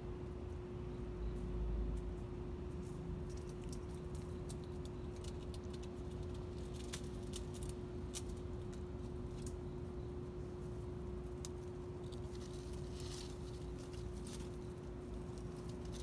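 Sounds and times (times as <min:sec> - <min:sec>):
steady hum: 0:00.0 - 0:16.0
leaves and twigs crackling: 0:02.7 - 0:16.0.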